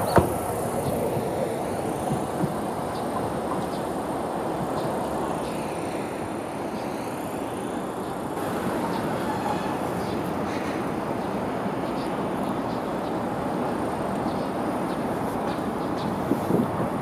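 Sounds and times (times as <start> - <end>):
distant tram rumbling: 0.0 - 17.0.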